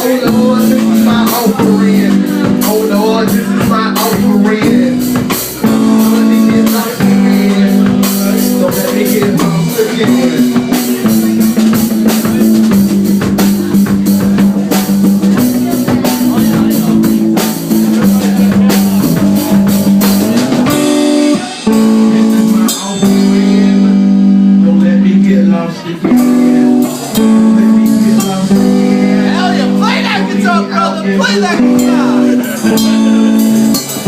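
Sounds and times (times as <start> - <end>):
drum kit beat: 0.0 - 34.0
electric guitar playing: 0.0 - 34.0.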